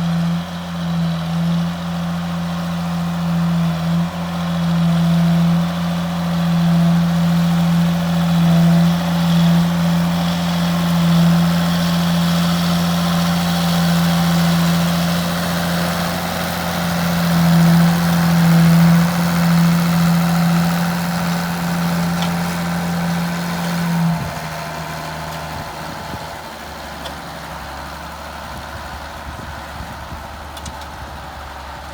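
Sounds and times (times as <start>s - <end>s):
tractor diesel engine drone: 0.0s - 31.9s.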